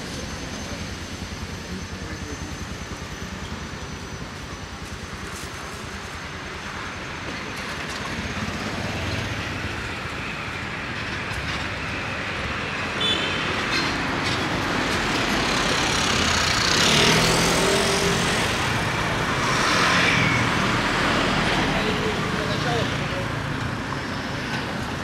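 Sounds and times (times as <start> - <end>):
tyre and street noise: 0.0 - 25.0
vehicles passing: 0.0 - 25.0.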